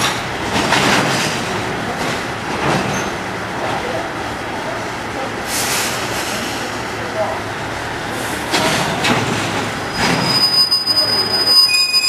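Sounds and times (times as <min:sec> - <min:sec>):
train wagons rumbling and rattling: 0:00.0 - 0:12.0.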